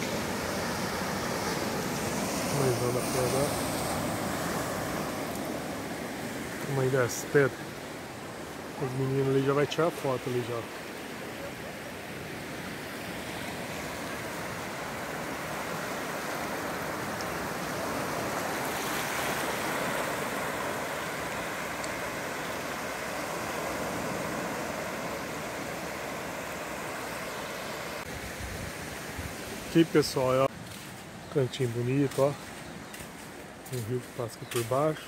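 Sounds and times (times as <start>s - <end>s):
small waves washing over sand: 0.0s - 35.0s.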